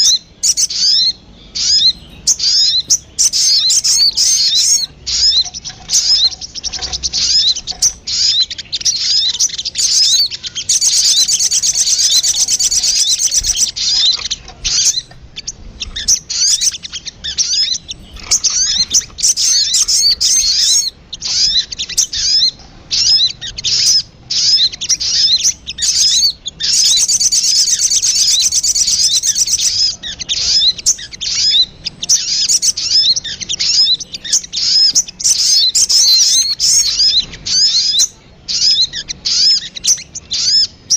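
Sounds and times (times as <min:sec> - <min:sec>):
songbird chattering chirps: 0:00.0 - 0:40.9.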